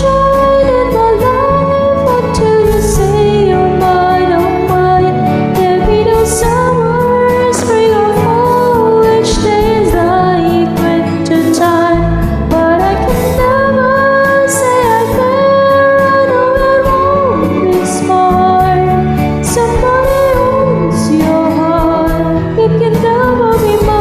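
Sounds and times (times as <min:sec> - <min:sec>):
bass and light percussion: 0:00.0 - 0:24.0
woman singing slow melody: 0:00.0 - 0:24.0.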